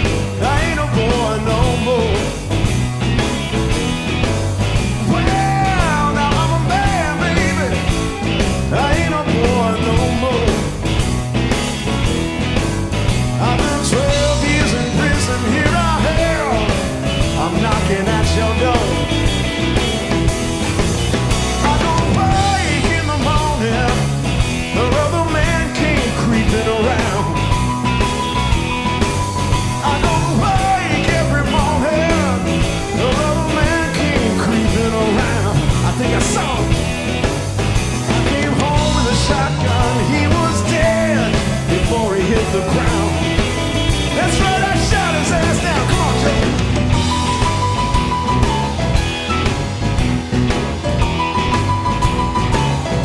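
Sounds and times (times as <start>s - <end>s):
blues rock band playing: 0.0s - 53.0s
electric lead guitar bends: 0.0s - 53.0s.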